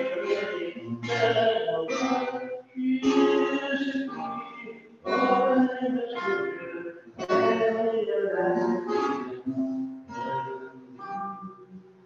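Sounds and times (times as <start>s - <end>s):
person singing: 0.0s - 11.9s
plucked classical guitar: 0.0s - 12.0s.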